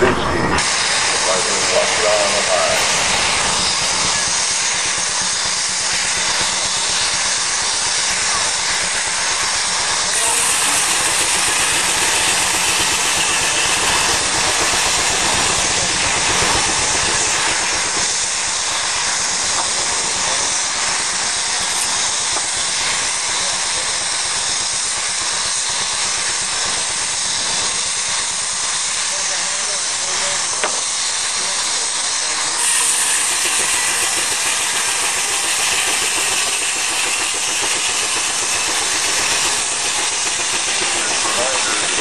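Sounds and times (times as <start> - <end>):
steam sawmill hissing: 0.0 - 42.0.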